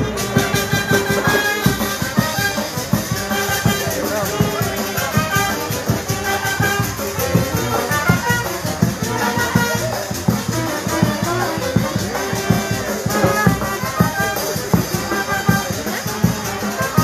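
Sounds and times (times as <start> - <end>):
brass melody: 0.0 - 17.0
drums beat: 0.0 - 17.0
shaken percussion: 0.0 - 17.0.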